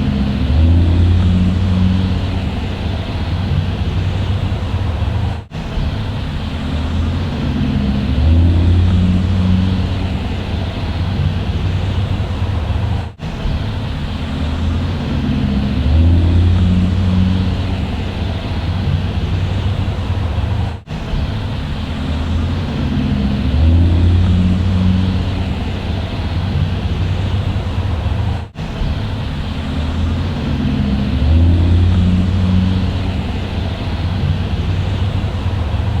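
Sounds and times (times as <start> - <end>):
bus engine droning: 0.0 - 36.0.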